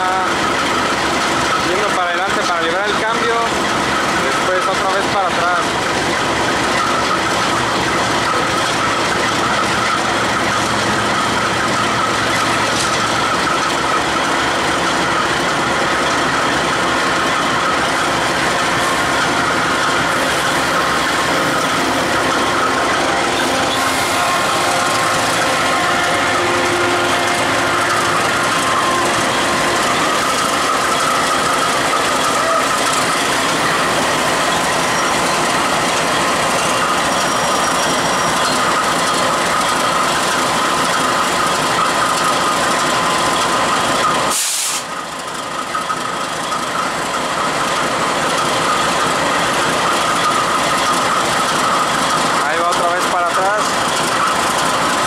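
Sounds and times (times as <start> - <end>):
steady high whine: 0.0 - 44.2
diesel locomotive engines running: 0.0 - 55.0
steel wheels clattering on rails: 0.0 - 55.0.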